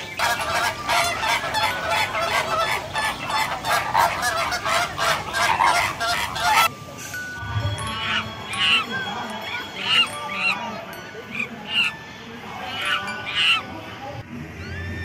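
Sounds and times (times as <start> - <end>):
flamingos honking: 0.0 - 7.1, 7.7 - 15.0.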